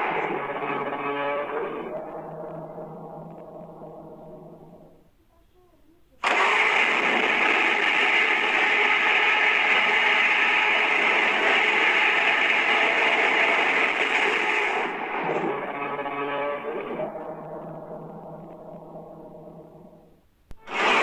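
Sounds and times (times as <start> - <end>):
harsh grating monster noise: 0.0 - 4.9, 6.2 - 19.4, 20.7 - 21.0.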